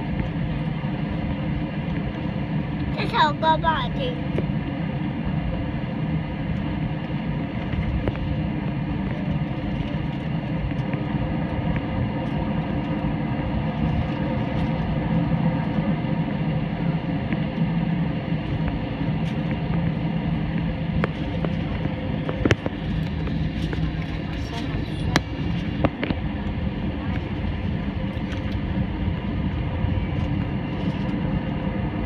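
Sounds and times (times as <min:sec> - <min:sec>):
airliner cabin hum: 0:00.0 - 0:32.0.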